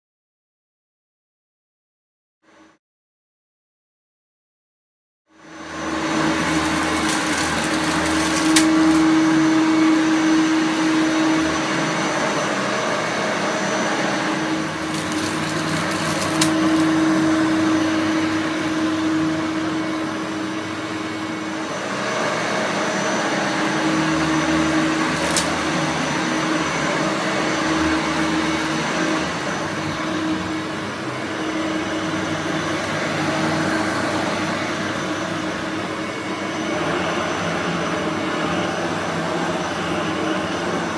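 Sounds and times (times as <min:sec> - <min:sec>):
vacuum cleaner running: 0:05.3 - 0:40.9.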